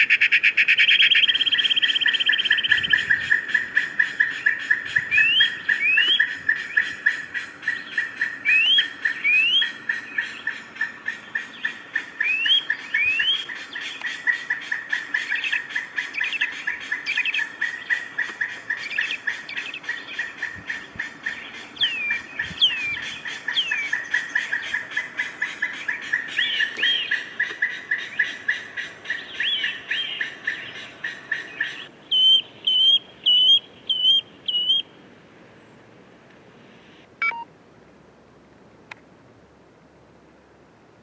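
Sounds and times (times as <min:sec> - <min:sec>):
birds chirping fast: 0:00.0 - 0:34.9.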